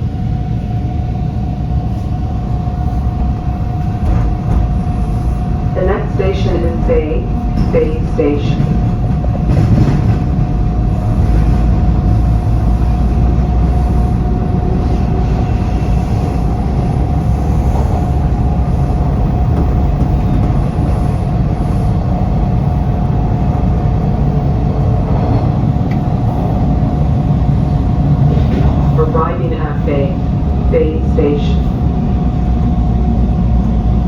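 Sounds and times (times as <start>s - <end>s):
steady train whine: 0.0s - 34.0s
subway train rumble: 0.0s - 34.0s.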